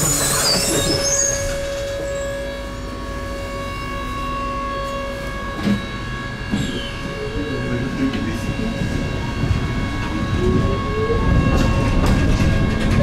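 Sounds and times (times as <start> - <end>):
tram running hum and whine: 0.0 - 13.0.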